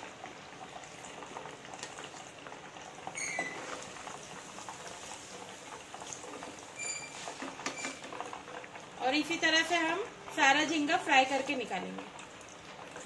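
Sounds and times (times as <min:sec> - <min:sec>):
hot oil bubbling and crackling: 0:00.0 - 0:13.0.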